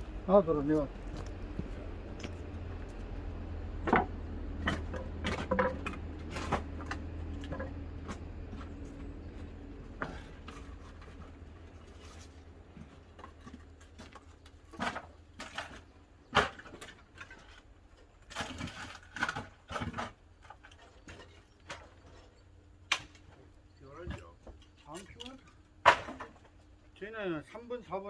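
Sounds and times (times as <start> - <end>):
firewood popping and crackling: 0.0 - 27.0
low steady rumble: 0.0 - 27.8.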